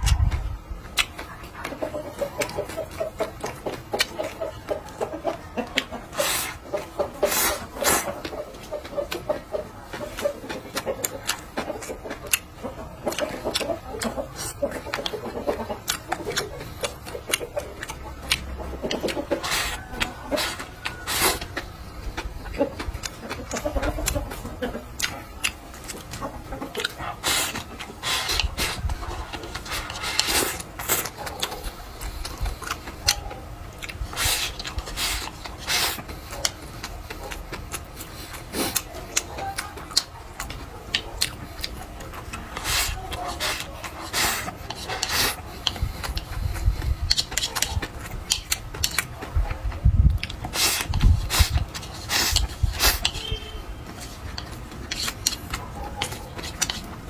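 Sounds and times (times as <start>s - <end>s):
person chewing and crunching: 0.0s - 57.0s.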